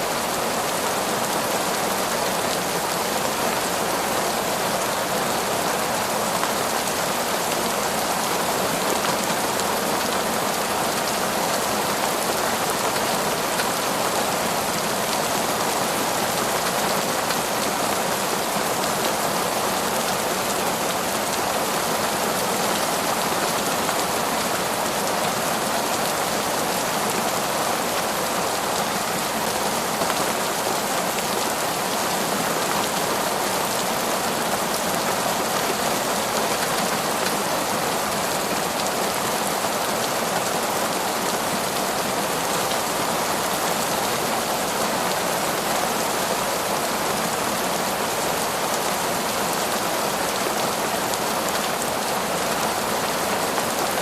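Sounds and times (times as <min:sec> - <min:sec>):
heavy rain in forest: 0:00.0 - 0:54.0.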